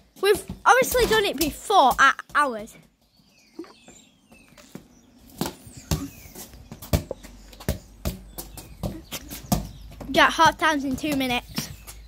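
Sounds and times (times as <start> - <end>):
football thudding on paving: 0.2 - 2.4, 4.3 - 12.0.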